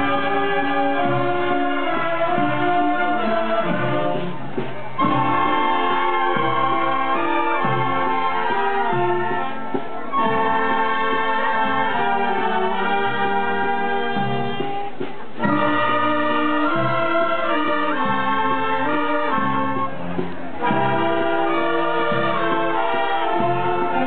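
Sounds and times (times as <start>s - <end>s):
wind band playing a march: 0.0s - 24.0s.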